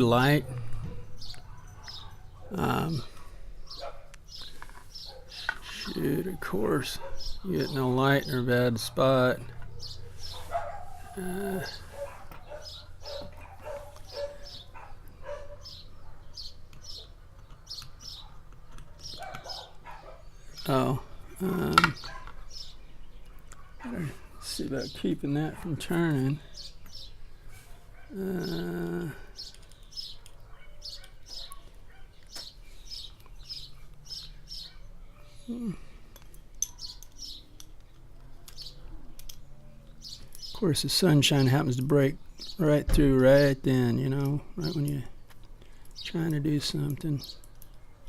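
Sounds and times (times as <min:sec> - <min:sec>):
bird chirping: 0:00.0 - 0:48.0.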